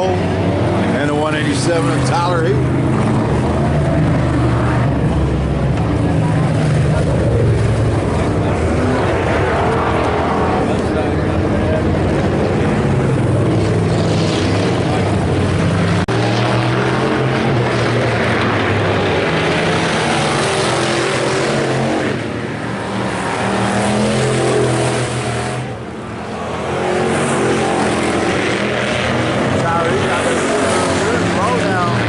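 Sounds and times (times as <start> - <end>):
race car engines revving: 0.0 - 32.0.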